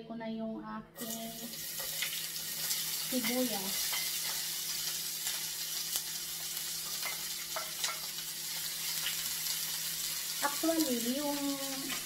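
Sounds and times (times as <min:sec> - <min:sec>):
onion sizzling in oil: 0:01.0 - 0:12.0.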